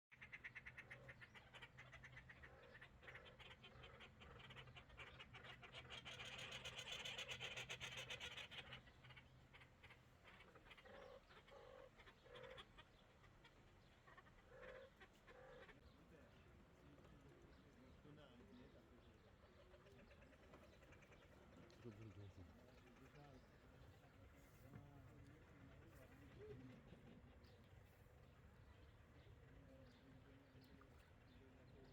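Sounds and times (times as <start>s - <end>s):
faint birds chattering: 0.0s - 31.9s.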